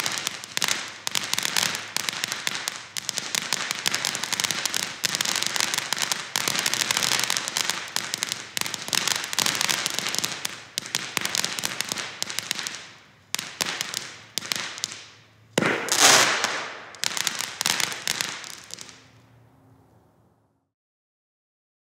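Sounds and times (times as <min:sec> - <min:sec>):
firework fountain crackling hiss: 0:00.0 - 0:19.3.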